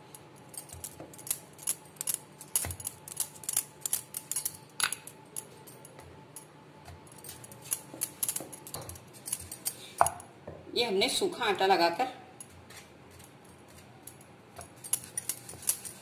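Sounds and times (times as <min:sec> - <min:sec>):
metal bangles clinking: 0:00.0 - 0:10.3, 0:12.4 - 0:16.0.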